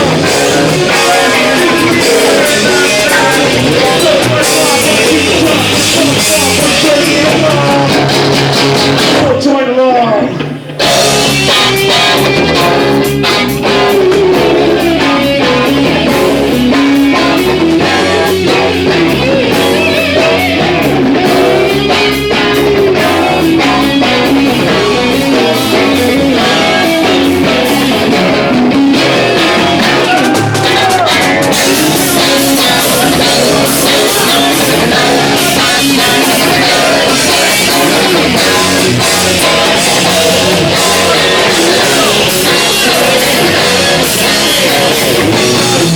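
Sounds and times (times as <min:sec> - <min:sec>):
live rock band playing: 0:00.0 - 0:45.9.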